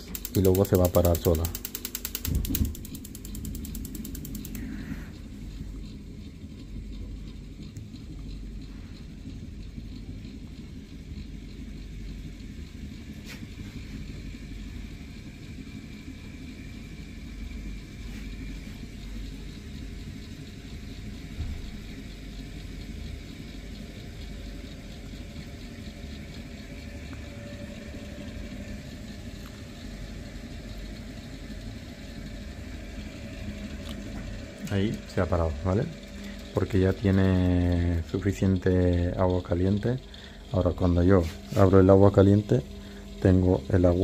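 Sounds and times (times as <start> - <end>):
gas boiler burner rumbling: 0.0 - 44.0.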